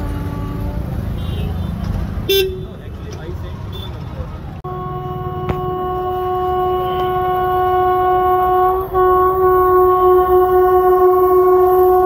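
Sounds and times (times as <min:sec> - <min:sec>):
train horn blast: 0:00.0 - 0:02.7, 0:04.6 - 0:12.0.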